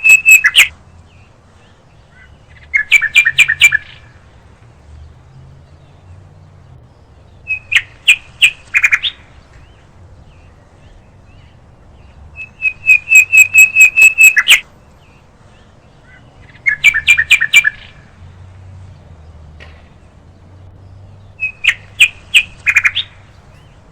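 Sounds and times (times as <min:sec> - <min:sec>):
bird chirping rapidly: 0:00.0 - 0:04.4, 0:05.7 - 0:18.2, 0:20.0 - 0:23.9.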